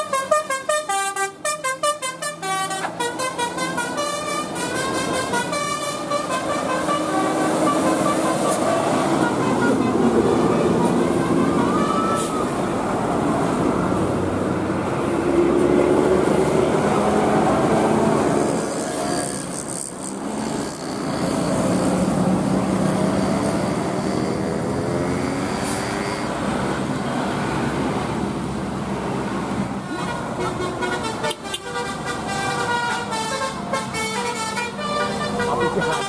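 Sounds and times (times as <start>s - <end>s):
large vehicles passing: 0.0s - 36.0s.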